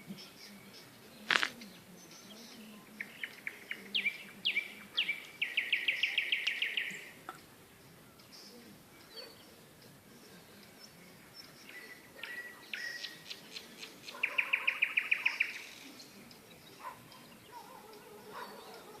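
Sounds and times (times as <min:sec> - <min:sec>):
nightingale singing: 0:00.0 - 0:19.0.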